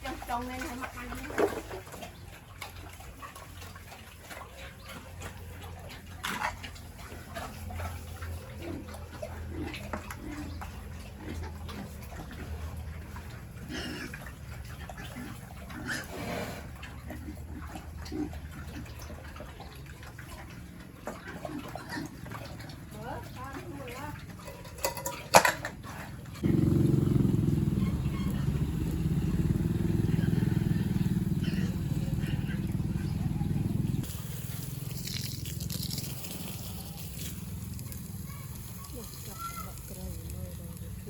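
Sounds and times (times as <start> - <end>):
water splashing and dripping: 0.0 - 15.8, 16.7 - 41.0
pigs grunting: 0.3 - 34.1.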